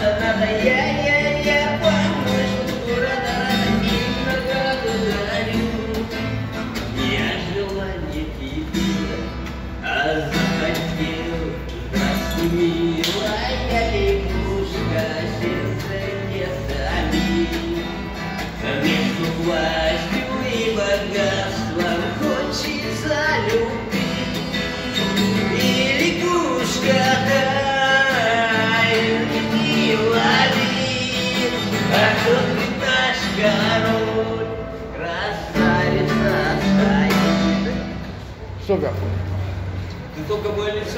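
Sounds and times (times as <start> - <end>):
acoustic guitar: 0.0 - 40.9.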